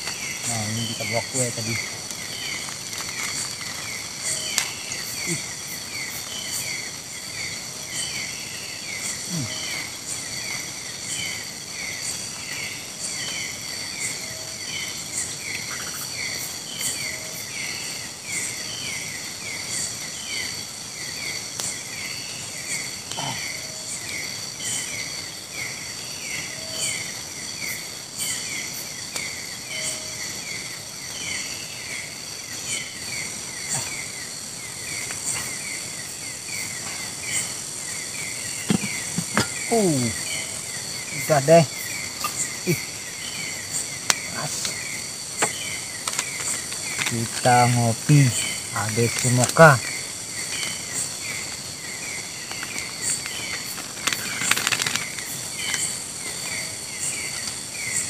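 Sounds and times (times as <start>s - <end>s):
insects buzzing and chirping: 0.0s - 58.0s
short lower insect call: 0.0s - 58.0s.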